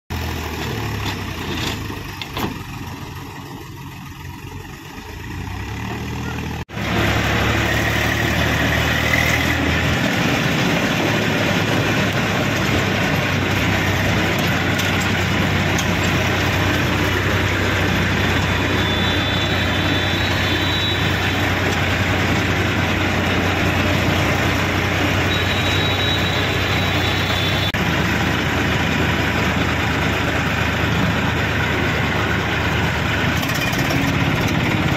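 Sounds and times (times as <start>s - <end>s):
diesel engine running: 0.1s - 34.9s
road and wind noise: 0.1s - 34.9s.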